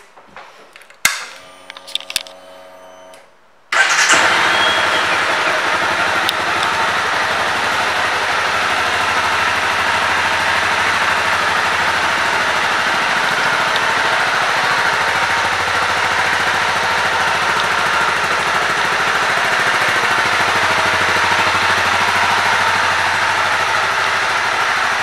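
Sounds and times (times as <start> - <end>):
motorcycle engine starting and idling: 3.7 - 25.0.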